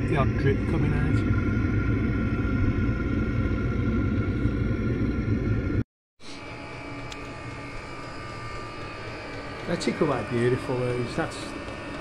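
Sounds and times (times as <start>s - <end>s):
heater exhaust rumbling: 0.0s - 12.0s
heater humming: 0.0s - 12.0s.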